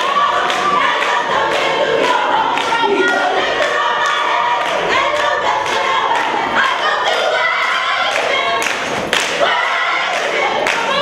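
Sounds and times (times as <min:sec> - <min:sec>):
choir singing gospel: 0:00.0 - 0:11.0.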